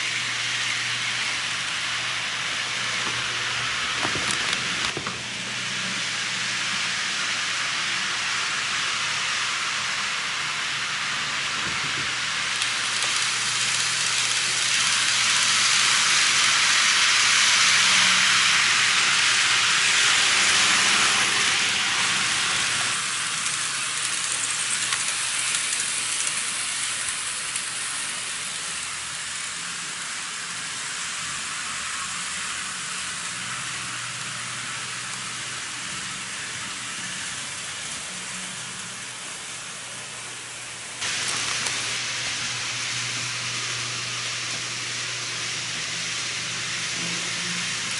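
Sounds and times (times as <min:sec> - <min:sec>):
model train wheels rattling on rails: 0:00.0 - 0:47.9.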